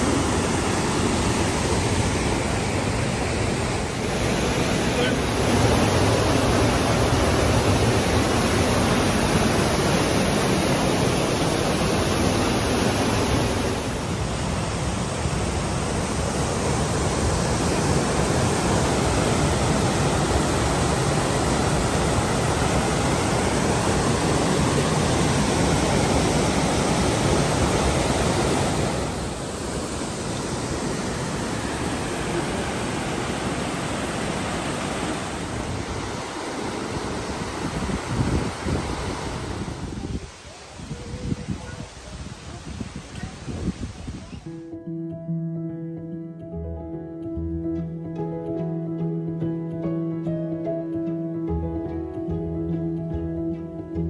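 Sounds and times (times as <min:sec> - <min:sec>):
whitewater rushing over boulders: 0:00.0 - 0:44.2.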